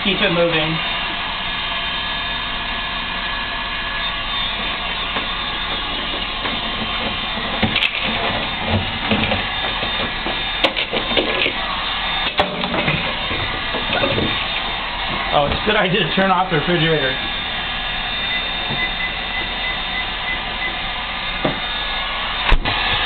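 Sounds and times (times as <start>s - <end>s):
heat gun blowing air: 0.2s - 23.0s.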